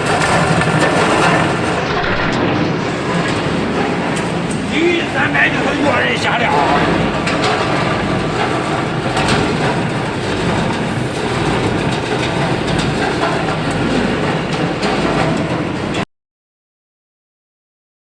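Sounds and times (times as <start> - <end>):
furnace plant mechanical rumble: 0.0 - 16.0.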